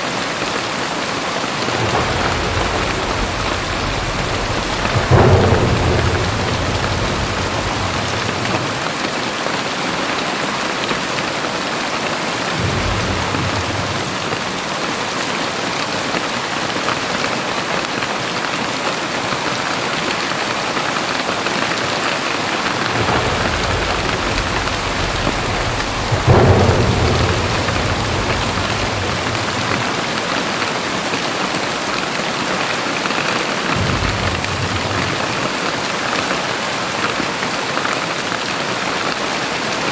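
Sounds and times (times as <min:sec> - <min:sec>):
heavy rain pouring: 0:00.0 - 0:39.9
thunder claps and rumbles: 0:00.4 - 0:18.5, 0:19.1 - 0:39.9.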